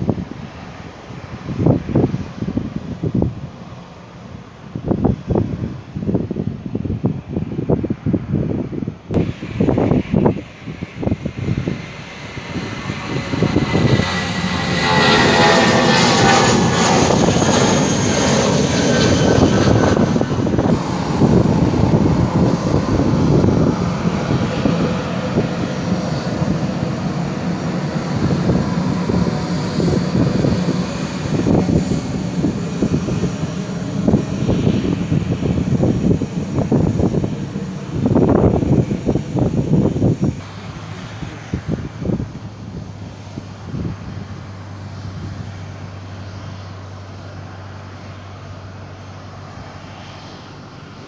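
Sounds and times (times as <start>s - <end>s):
jet engines of taxiing airliner: 0.0s - 51.0s.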